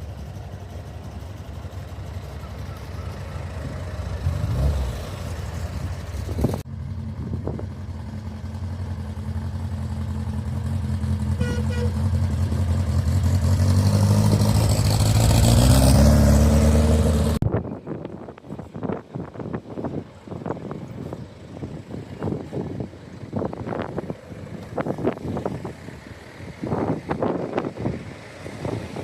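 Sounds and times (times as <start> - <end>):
car engine approaching: 0.0 - 29.0.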